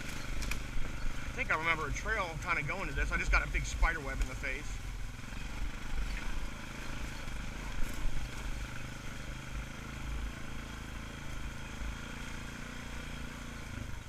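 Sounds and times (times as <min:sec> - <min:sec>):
atv engine droning: 0:00.0 - 0:14.0.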